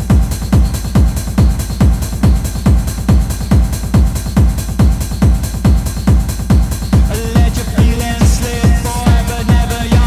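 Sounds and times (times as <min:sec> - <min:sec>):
driving kick drum: 0:00.0 - 0:10.0
electronic dance music: 0:00.0 - 0:10.0.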